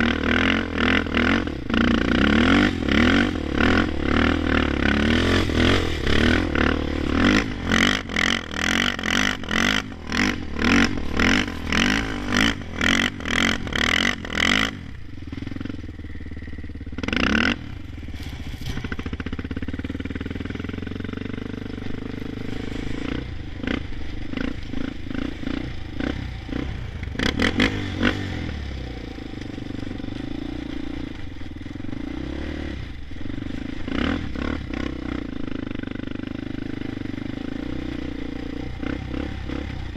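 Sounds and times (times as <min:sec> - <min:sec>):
atv engine on rev limiter: 0:00.0 - 0:39.9.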